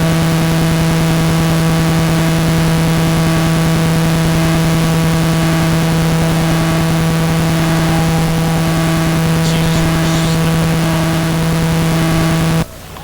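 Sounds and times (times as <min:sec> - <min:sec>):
loud electrical buzz: 0:00.0 - 0:12.7
static hiss: 0:00.0 - 0:13.0.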